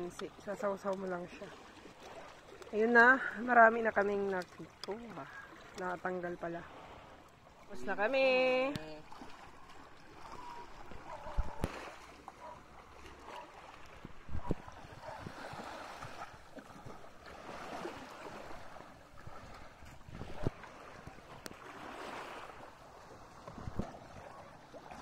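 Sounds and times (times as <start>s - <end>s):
small waves lapping on beach: 0.0s - 25.0s.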